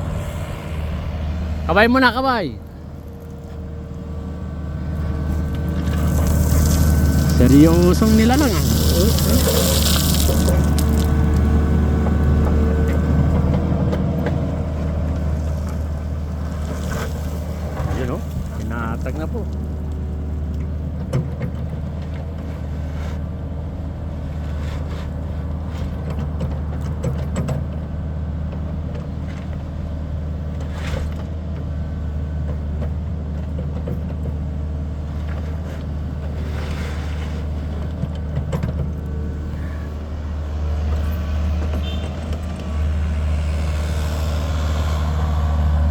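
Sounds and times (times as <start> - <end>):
vehicle engine droning: 0.0 - 45.9.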